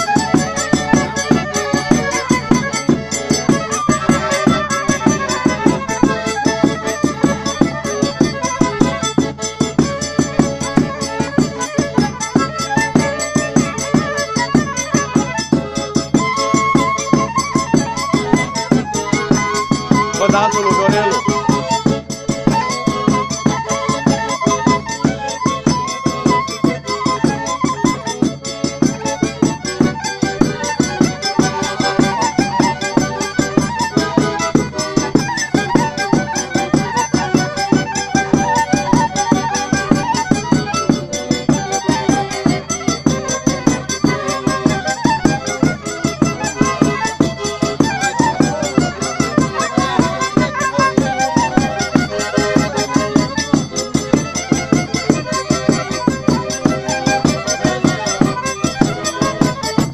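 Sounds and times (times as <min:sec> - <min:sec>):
accordion: 0:00.0 - 0:59.9
horn violin playing folk tune: 0:00.0 - 0:59.9.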